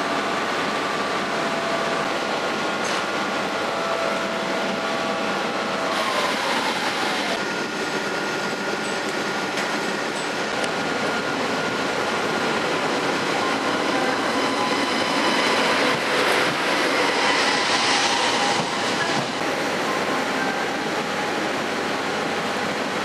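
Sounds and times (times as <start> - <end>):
high-speed train passing: 0.0 - 23.0.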